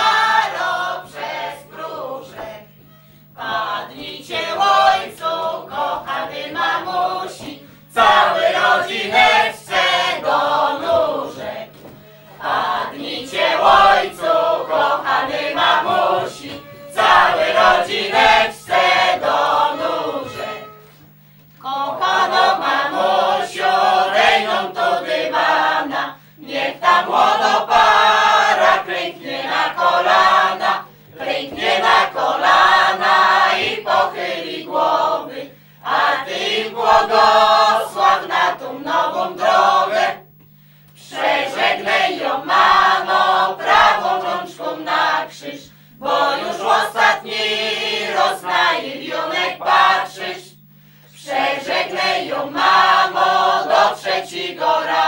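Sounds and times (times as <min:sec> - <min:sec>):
unaccompanied group singing: 0:00.0 - 0:40.4, 0:41.0 - 0:55.0.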